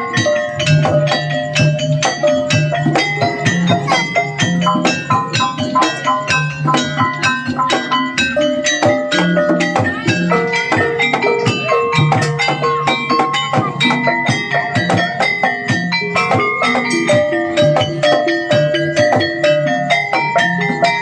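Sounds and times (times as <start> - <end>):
drum strokes: 0.0 - 21.0
gamelan gongs and metallophones: 0.0 - 21.0.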